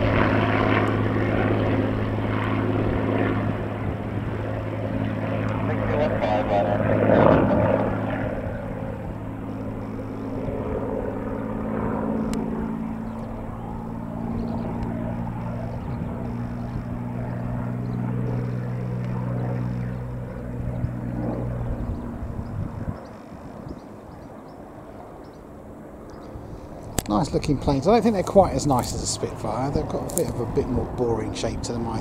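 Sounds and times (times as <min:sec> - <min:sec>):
piston aircraft engine overhead: 0:00.0 - 0:32.0.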